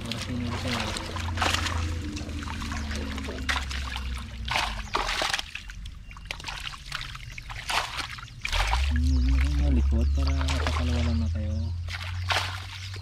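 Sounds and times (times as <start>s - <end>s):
low rumble: 0.0s - 13.0s
water splashing and dripping: 0.0s - 13.0s.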